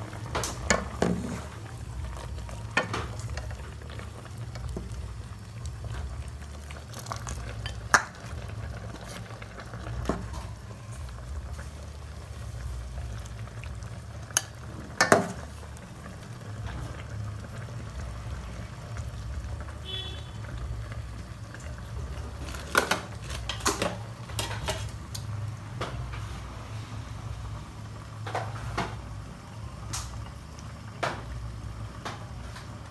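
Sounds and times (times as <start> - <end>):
pot boiling with low rumble: 0.0 - 32.9.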